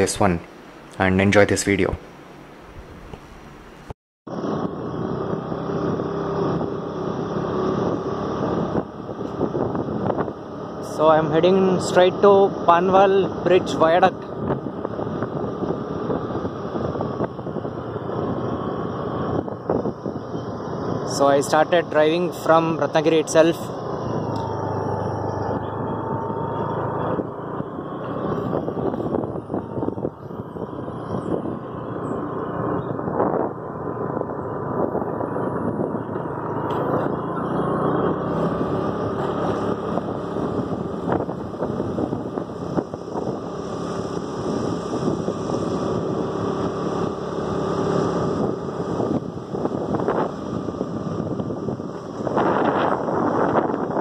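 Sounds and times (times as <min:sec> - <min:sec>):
road noise: 0:00.0 - 0:54.0
wind rushing: 0:04.3 - 0:11.2, 0:14.0 - 0:22.8, 0:23.6 - 0:54.0
motorcycle engine running: 0:04.3 - 0:54.0.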